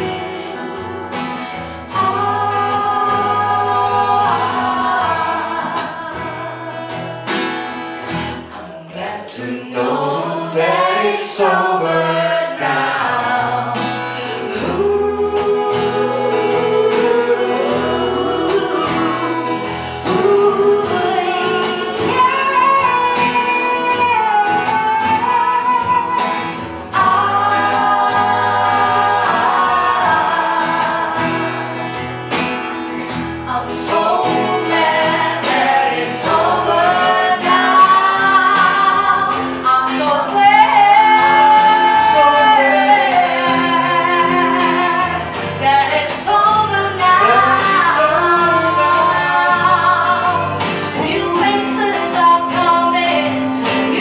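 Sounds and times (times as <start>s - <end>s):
woman singing into a microphone: 0.0s - 7.5s, 8.1s - 32.1s, 33.1s - 54.0s
strummed acoustic guitar: 0.0s - 54.0s.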